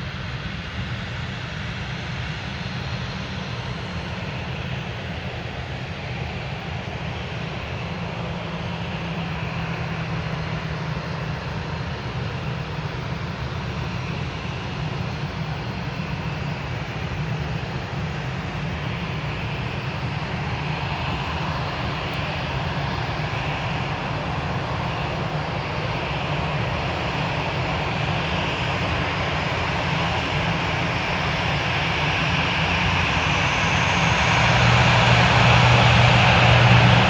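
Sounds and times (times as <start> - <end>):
airliner engines droning: 0.0 - 37.0.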